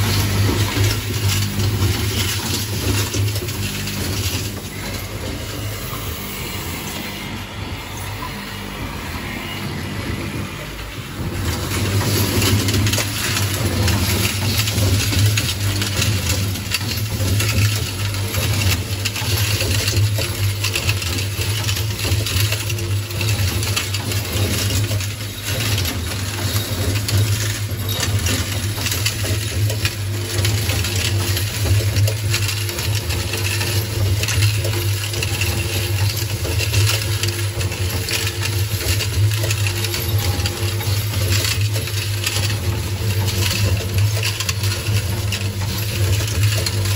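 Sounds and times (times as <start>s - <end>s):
metal clicks and rattles: 0.0s - 5.6s, 11.4s - 46.9s
bowl feeder humming: 0.0s - 46.9s.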